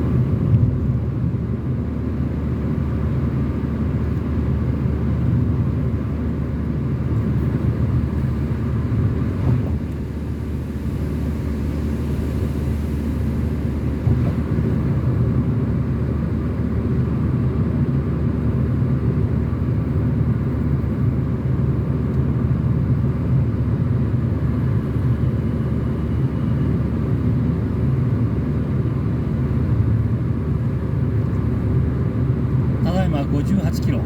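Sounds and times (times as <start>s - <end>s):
car engine and tyre road noise: 0.0s - 34.0s.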